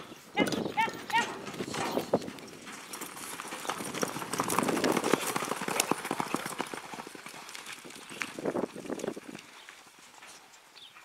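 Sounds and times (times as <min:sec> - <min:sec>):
horse hoofbeats galloping on dirt: 0:00.4 - 0:11.0.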